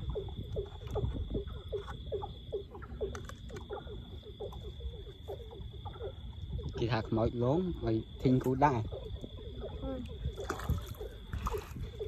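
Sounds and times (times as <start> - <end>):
frogs croaking in chorus: 0.0 - 12.0.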